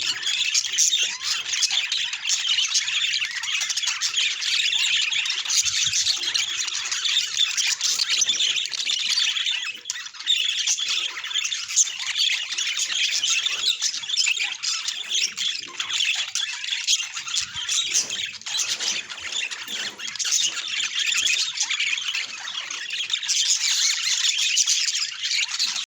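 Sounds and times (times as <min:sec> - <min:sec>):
budgies chattering and squawking: 0:00.0 - 0:25.9.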